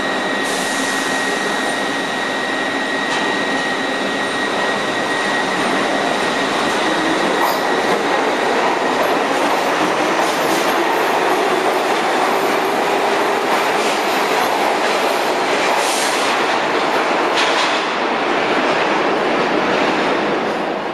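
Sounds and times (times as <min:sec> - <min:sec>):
subway train wheels clattering: 0:00.0 - 0:20.9.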